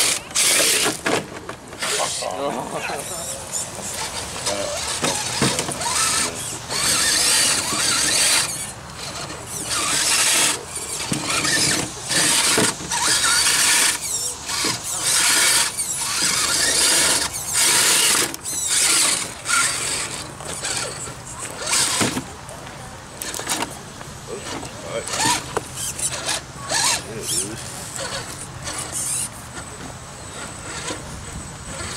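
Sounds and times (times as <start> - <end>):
electric motor and gears whining: 0.0 - 31.9.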